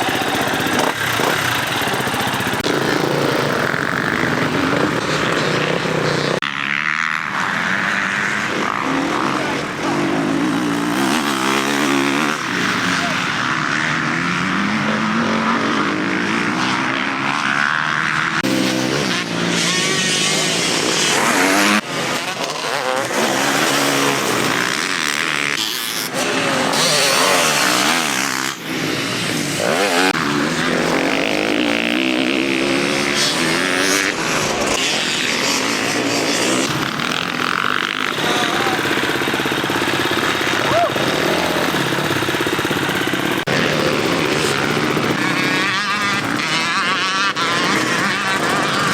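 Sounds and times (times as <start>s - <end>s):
motocross bike engines revving: 0.0s - 48.9s.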